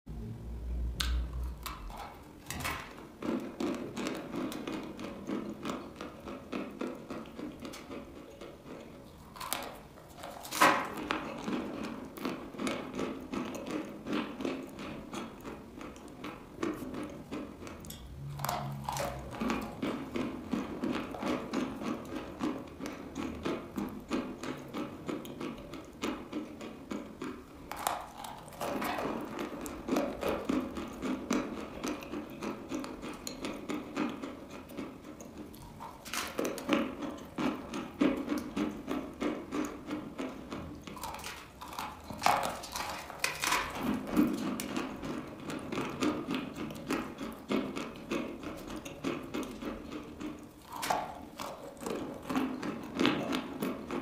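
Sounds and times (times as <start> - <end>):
gritty crunching of chewing: 1.0 - 54.0.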